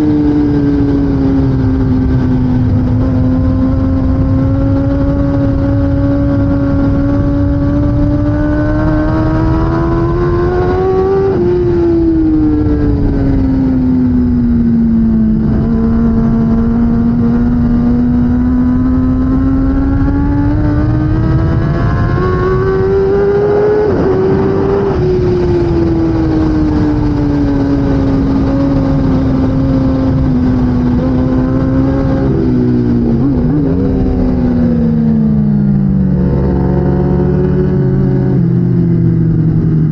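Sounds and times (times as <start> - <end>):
motorcycle engine racing: 0.0 - 39.9
wind rush: 0.0 - 39.9.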